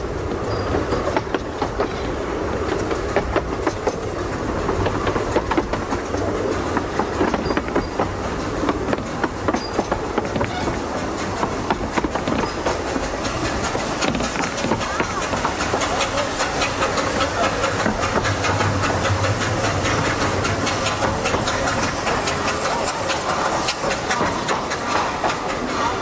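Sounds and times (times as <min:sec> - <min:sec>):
steam locomotive hissing: 0:00.0 - 0:26.0
train wheels clicking over rail joints: 0:00.0 - 0:26.0.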